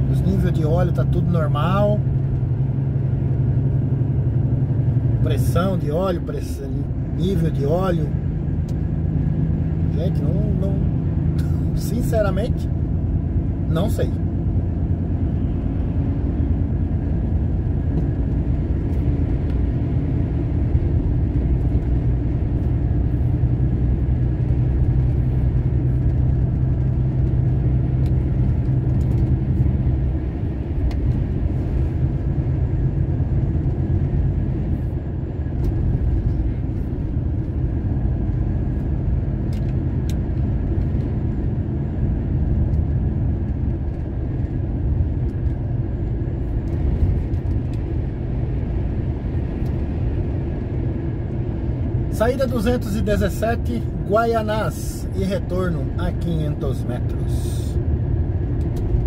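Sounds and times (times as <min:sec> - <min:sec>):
diesel truck engine running: 0:00.0 - 0:59.0
road noise: 0:00.0 - 0:59.0.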